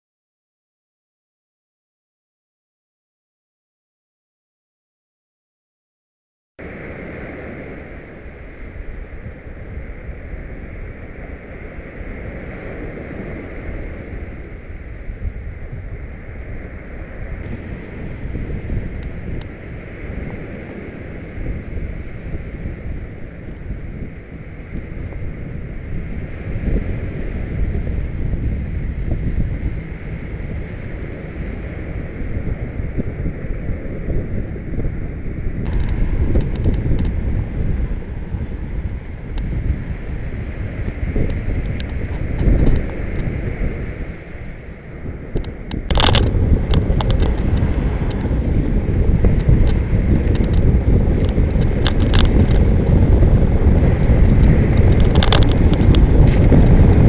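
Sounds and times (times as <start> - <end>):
wind rumbling on microphone: 6.6 - 57.0.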